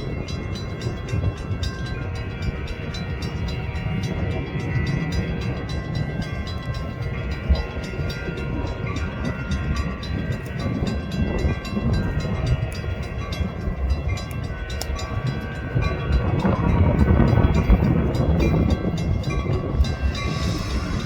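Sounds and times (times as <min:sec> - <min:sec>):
rail joints clicking: 0:00.0 - 0:21.0
train wheels rumbling on rails: 0:00.0 - 0:21.0.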